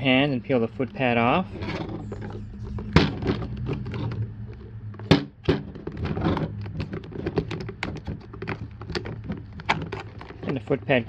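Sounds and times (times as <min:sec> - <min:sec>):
steady low hum: 0:00.0 - 0:11.0
hard plastic parts clicking: 0:01.6 - 0:11.0.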